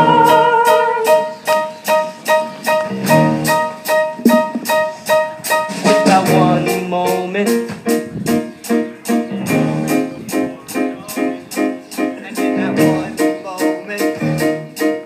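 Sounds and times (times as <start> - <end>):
keyboard chords: 0.0 - 15.0
drum kit steady beat: 1.0 - 15.0.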